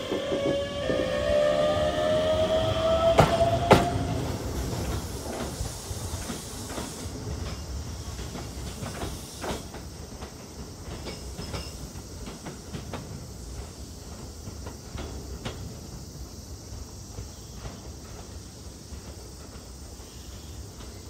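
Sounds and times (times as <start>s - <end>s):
train wheels clicking over rail joints: 0.0s - 21.0s.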